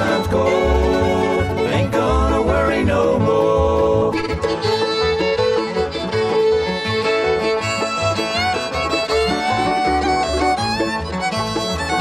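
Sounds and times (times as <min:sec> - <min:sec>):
fiddle sliding lead: 0:00.0 - 0:12.0
mandolin: 0:00.0 - 0:12.0
upright bass: 0:00.0 - 0:12.0.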